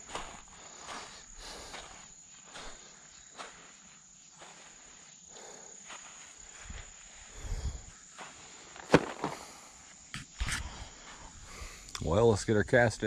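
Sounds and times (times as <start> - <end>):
footsteps on muddy pebbly ground: 0.0 - 11.3
high-pitched insect trill: 0.0 - 13.0.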